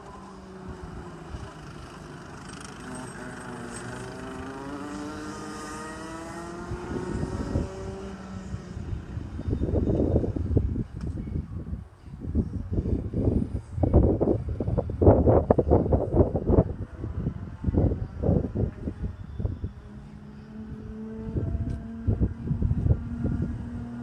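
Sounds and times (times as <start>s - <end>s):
distant kart engines racing: 0.0s - 11.2s, 13.2s - 24.0s.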